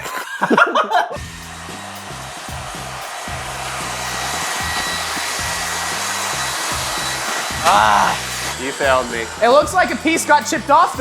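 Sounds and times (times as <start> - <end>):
background music: 0.0 - 11.0
table saw whirring: 1.2 - 11.0.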